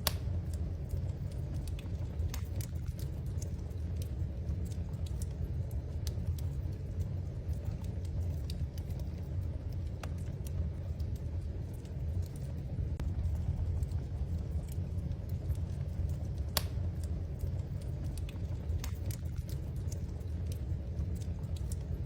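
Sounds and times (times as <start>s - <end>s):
low steady rumble: 0.0s - 22.0s
wood fire crackling and popping: 0.0s - 22.0s.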